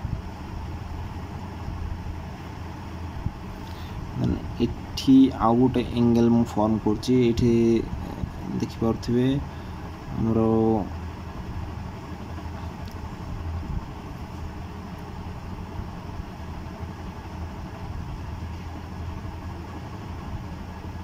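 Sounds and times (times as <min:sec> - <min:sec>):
low hum and rumble: 0:00.0 - 0:21.0.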